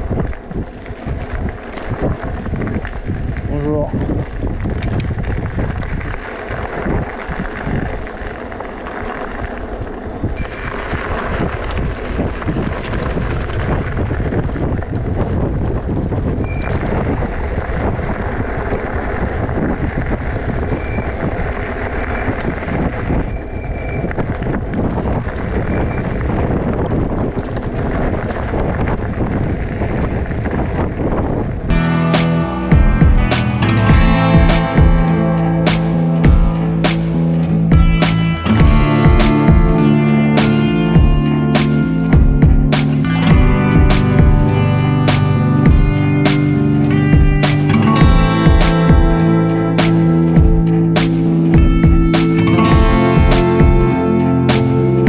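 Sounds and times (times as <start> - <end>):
low rumble: 0.0 - 55.0
wind buffeting microphone: 0.0 - 55.0.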